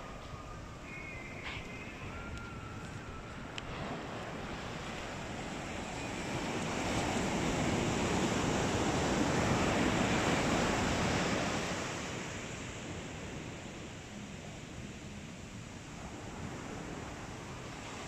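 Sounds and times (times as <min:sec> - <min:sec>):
sea surf breaking: 0:00.0 - 0:15.2.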